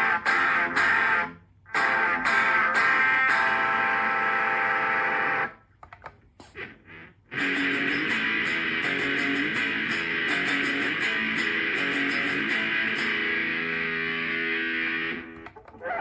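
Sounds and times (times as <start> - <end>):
electric guitar strummed chords: 0.0 - 5.6, 6.6 - 15.4.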